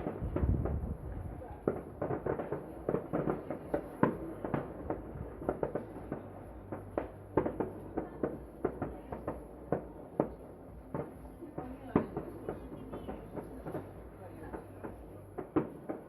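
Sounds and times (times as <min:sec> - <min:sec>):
distant rumble of explosions: 0:00.0 - 0:16.0
fireworks bangs and pops: 0:00.0 - 0:16.0.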